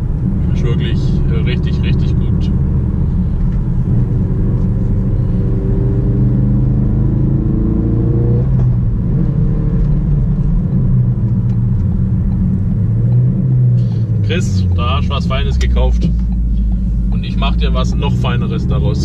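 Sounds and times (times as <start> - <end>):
car engine from inside cabin: 0.0 - 19.0
road rumble: 0.0 - 19.0.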